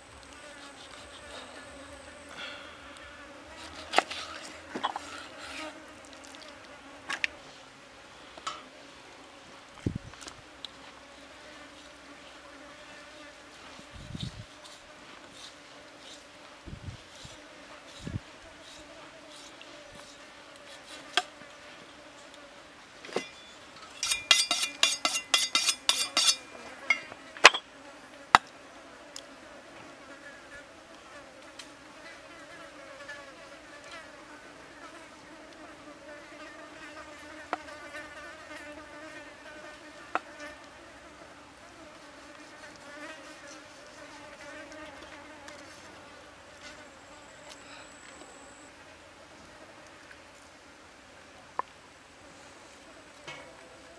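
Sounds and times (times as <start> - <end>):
insect buzzing: 0.0 - 7.5, 10.8 - 49.9.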